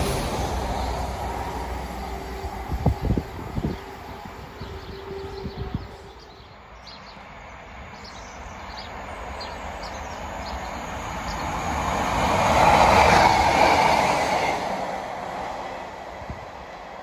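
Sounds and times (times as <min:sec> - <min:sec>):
train passing by: 0:00.0 - 0:17.0.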